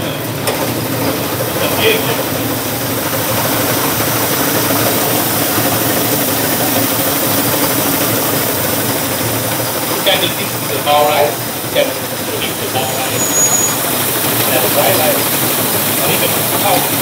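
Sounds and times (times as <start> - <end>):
farm machine engine running: 0.0 - 17.0.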